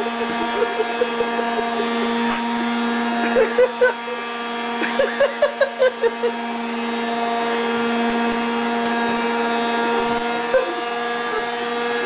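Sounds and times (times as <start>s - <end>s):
vacuum cleaner motor humming: 0.0s - 12.0s.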